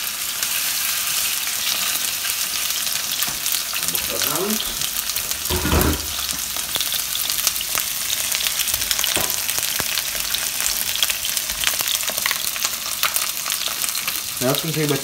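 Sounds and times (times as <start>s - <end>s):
chicken sizzling in frying pan: 0.0s - 15.0s.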